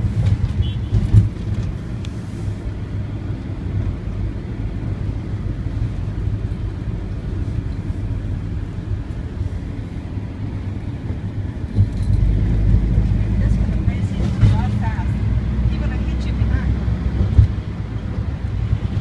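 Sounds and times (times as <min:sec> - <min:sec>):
vehicle road noise: 0:00.0 - 0:19.0.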